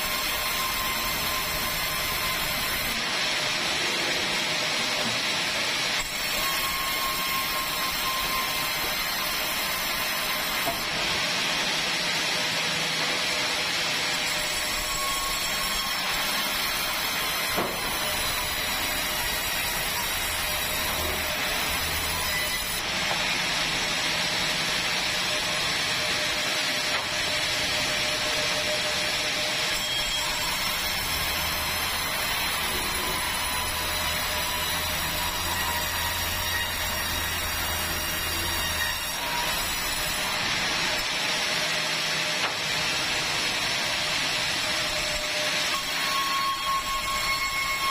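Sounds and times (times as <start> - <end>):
band saw cutting timber: 0.0 - 47.9.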